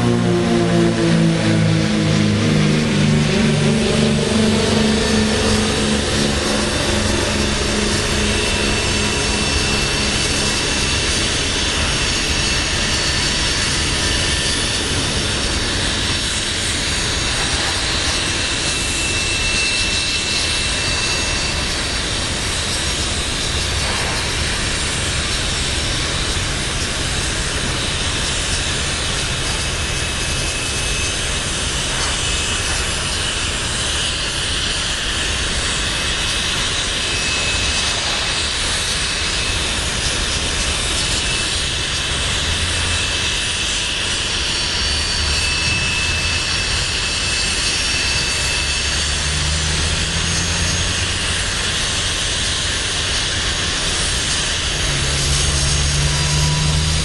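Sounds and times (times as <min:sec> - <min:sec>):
droning engine: 0:00.0 - 0:57.0
steel wheels rumbling on rail: 0:00.0 - 0:57.0
faint high wheel squeal: 0:01.5 - 0:57.0.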